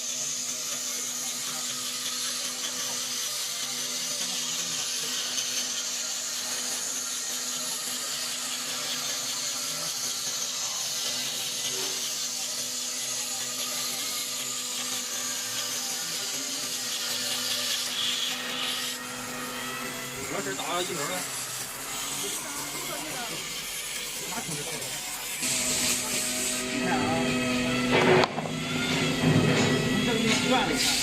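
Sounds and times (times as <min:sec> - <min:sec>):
cutting machine humming and hissing: 0:00.0 - 0:31.0.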